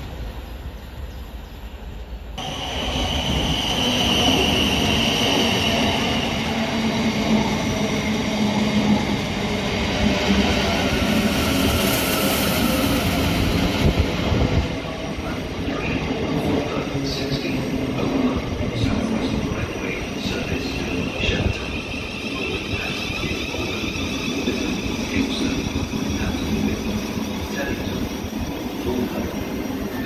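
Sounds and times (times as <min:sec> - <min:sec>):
electric train whine: 0:00.0 - 0:30.0
train wheels rumbling on rails: 0:00.0 - 0:30.0.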